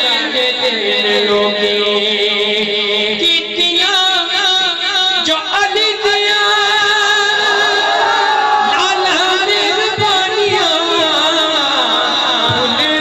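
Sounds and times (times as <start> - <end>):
man singing unaccompanied: 0.0 - 7.8, 8.6 - 13.0.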